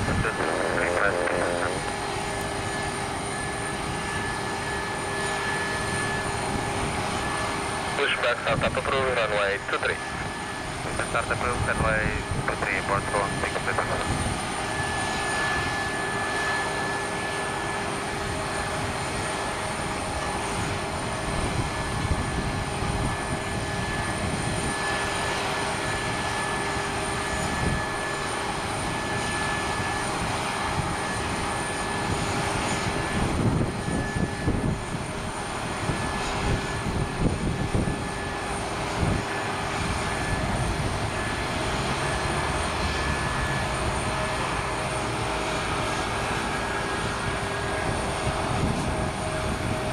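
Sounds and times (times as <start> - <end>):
airliner turbines whining: 0.0 - 49.9.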